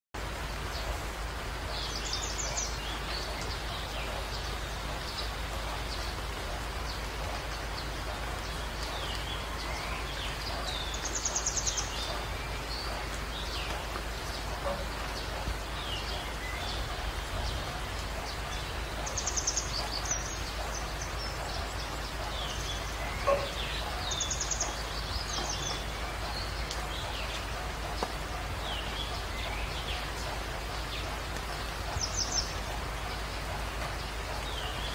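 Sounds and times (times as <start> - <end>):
small birds chirping: 0.2 - 34.9
steady background hiss: 0.2 - 34.9.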